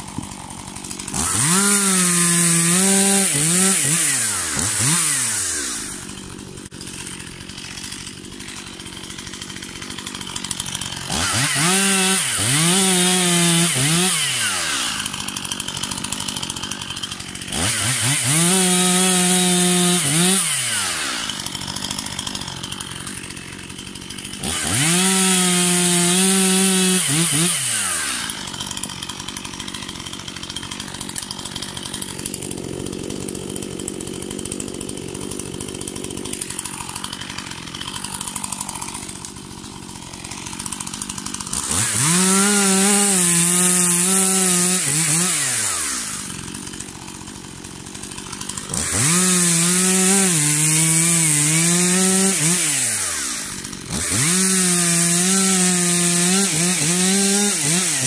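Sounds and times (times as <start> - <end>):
chainsaw cutting at full throttle: 0.0 - 58.0
chainsaw running steadily: 0.0 - 58.0.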